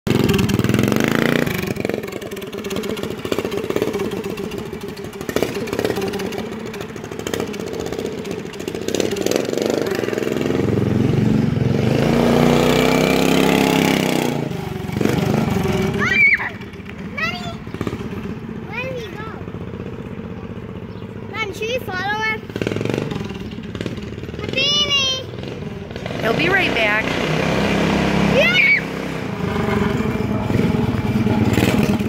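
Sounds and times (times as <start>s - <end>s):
small engine putter revving: 0.1s - 19.3s, 22.4s - 32.0s.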